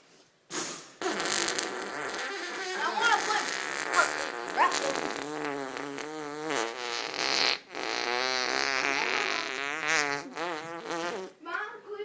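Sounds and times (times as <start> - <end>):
wavering bodily noises: 1.0 - 11.5.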